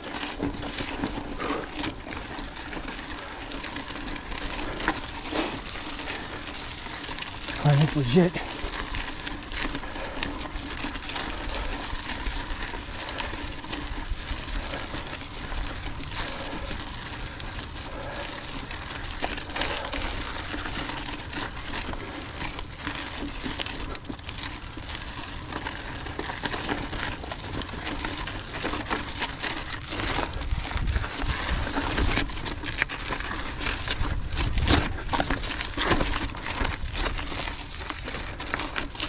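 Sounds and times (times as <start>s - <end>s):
bike clicks and rattles: 0.0s - 39.0s
bike tyres crunching on gravel: 0.0s - 39.0s.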